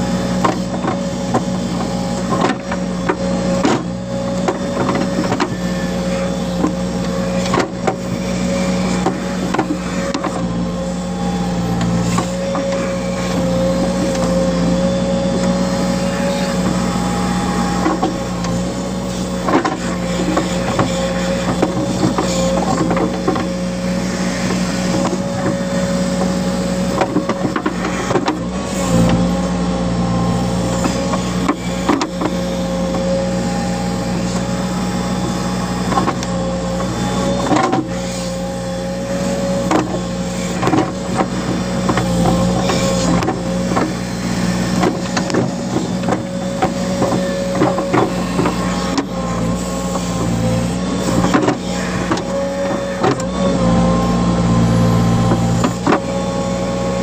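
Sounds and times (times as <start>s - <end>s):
diesel engine whining under load: 0.0s - 57.0s.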